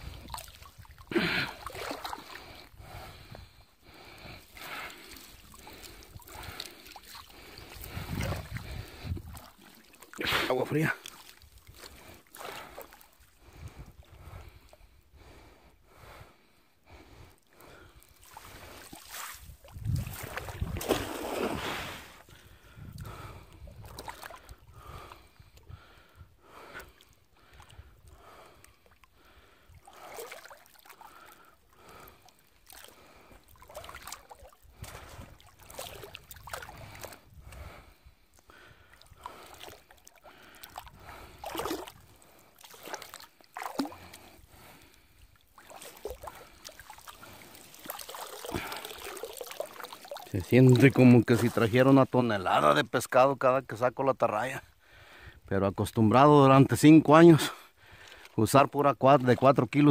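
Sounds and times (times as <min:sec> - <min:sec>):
water sloshing and splashing: 0:00.0 - 0:14.8, 0:17.4 - 0:25.9, 0:26.5 - 0:52.1, 0:57.4 - 0:59.9.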